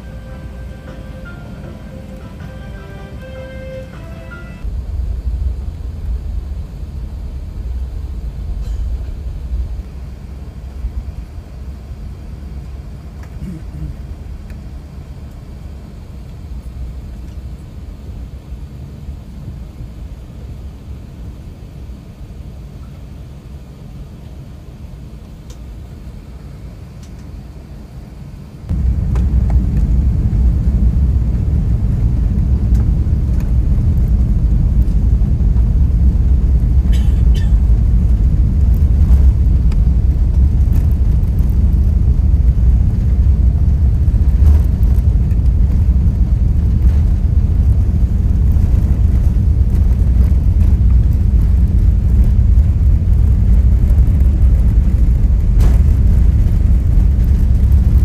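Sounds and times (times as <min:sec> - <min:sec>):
aircraft cabin rumble: 0:00.0 - 0:58.0.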